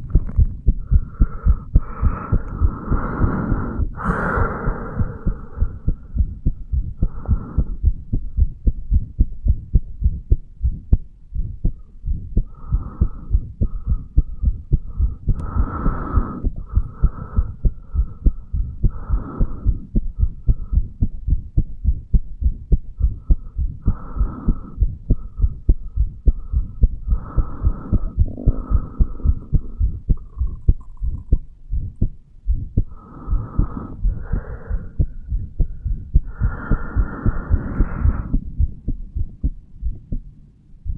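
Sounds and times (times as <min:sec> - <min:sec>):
heartbeat thumps: 0:00.0 - 0:40.9.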